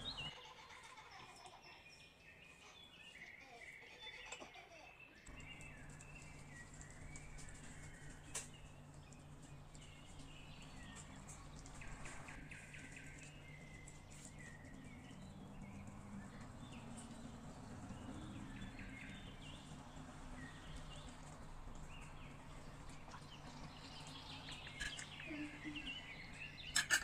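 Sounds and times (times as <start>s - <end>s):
faint small birds chirping: 0.0s - 27.0s
low steady hum: 5.2s - 27.0s.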